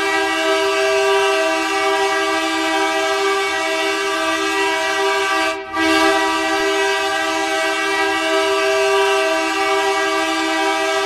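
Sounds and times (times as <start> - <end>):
goal horn chord: 0.0 - 11.0.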